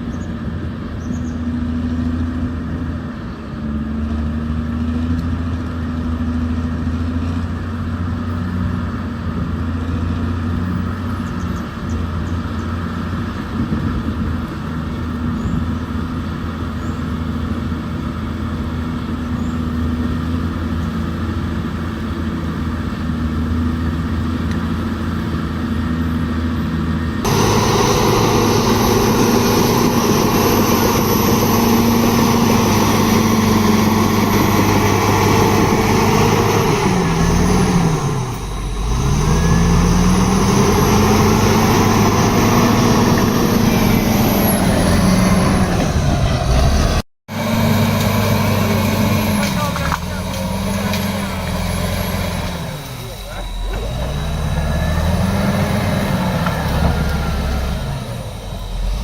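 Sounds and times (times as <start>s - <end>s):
diesel engine running: 0.0s - 59.0s
harsh engine pitch sagging: 0.0s - 59.0s.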